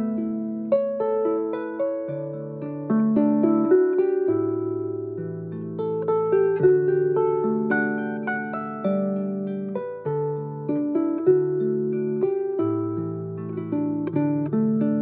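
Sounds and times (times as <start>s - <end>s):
plucked harp arpeggios: 0.0s - 15.0s.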